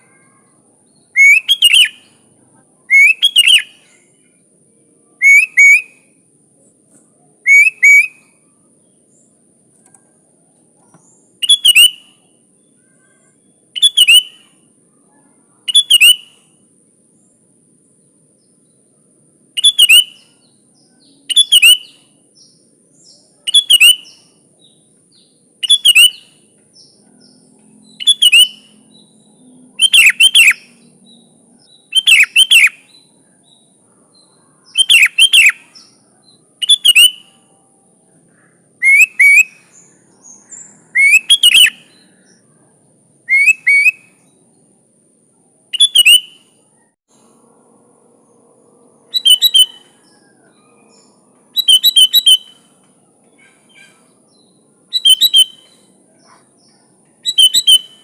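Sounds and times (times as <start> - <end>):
bulbul singing whistled phrases: 0.0 - 4.4, 5.1 - 6.2, 7.3 - 9.4, 10.8 - 17.4, 19.5 - 37.5, 38.4 - 42.6, 43.2 - 44.6, 45.7 - 47.0, 49.1 - 58.0.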